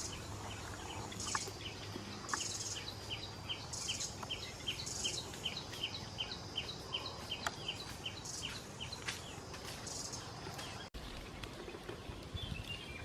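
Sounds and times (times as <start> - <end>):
insects buzzing: 0.0 - 10.8
bird chirping: 0.0 - 13.0.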